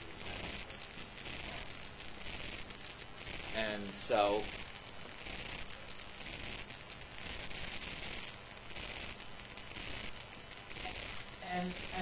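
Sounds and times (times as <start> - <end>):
recording hiss and crackle: 0.0 - 12.0.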